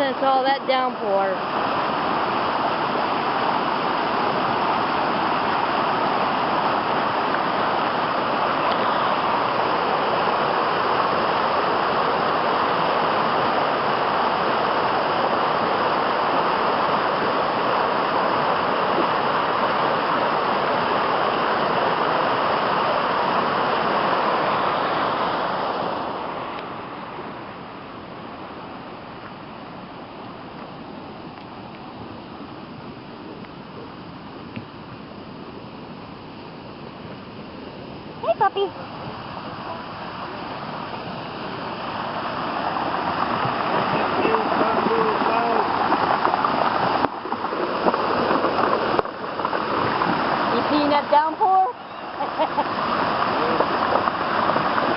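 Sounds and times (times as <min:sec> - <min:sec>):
creek water rushing: 0:00.0 - 0:54.9.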